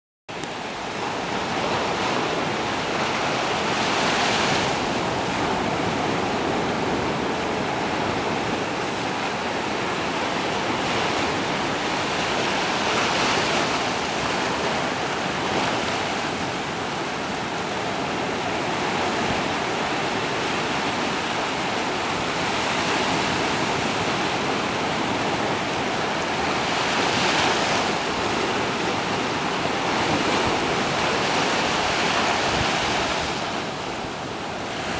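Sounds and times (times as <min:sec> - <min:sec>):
surf washing onto shore: 0:00.3 - 0:34.9
waves breaking: 0:00.3 - 0:34.9.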